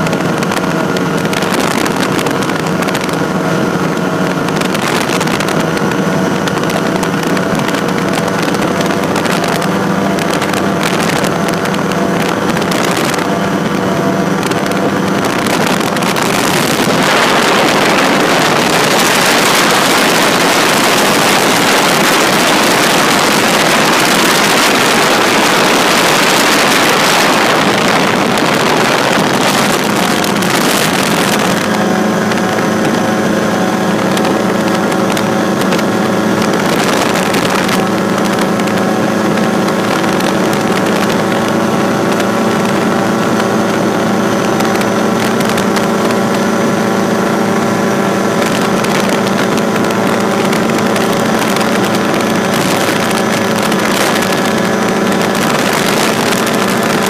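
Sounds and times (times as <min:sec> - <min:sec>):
light aircraft engine droning: 0:00.0 - 0:57.0
rushing airflow noise: 0:00.0 - 0:57.0.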